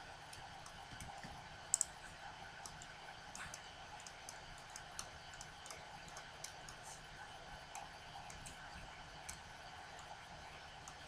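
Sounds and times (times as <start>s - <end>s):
faint hiss and hum: 0.0s - 11.0s.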